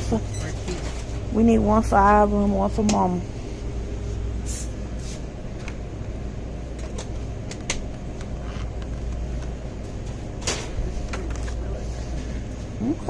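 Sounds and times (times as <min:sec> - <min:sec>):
store background hum: 0:00.0 - 0:13.0.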